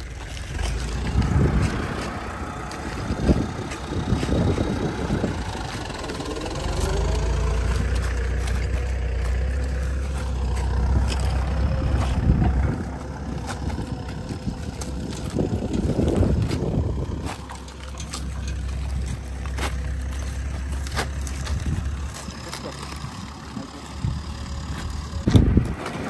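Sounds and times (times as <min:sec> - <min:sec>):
tractor engine: 0:00.0 - 0:26.0.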